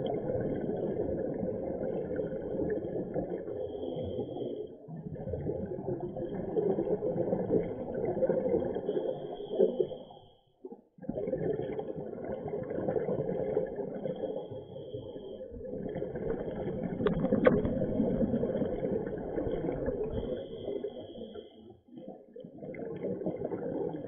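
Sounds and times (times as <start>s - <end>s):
underwater breathing bubbles: 0.0s - 10.3s, 11.0s - 24.0s.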